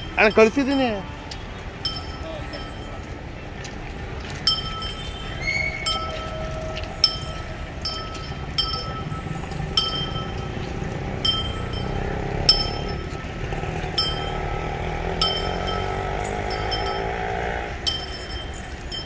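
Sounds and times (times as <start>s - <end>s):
metal clinks like small bell: 0.0s - 19.0s
street noise hum: 0.0s - 19.0s.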